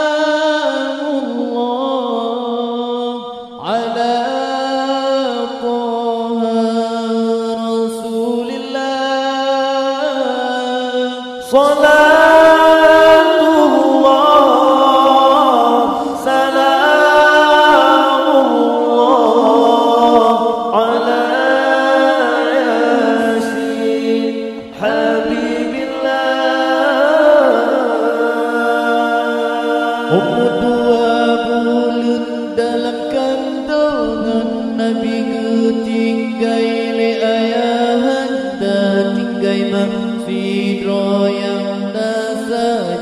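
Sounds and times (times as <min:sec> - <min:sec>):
men singing unaccompanied: 0:00.0 - 0:43.0.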